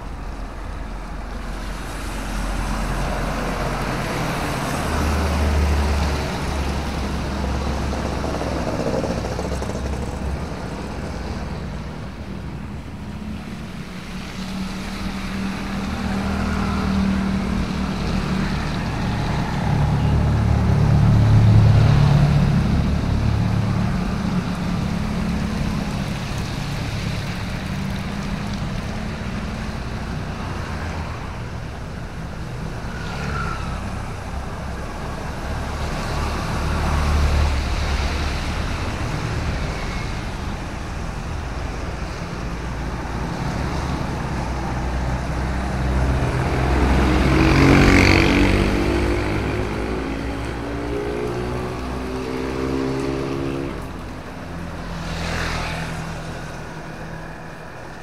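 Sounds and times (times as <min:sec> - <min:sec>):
cars and motorbikes passing: 0:00.0 - 0:58.0
vehicle engines rumbling: 0:00.0 - 0:58.0.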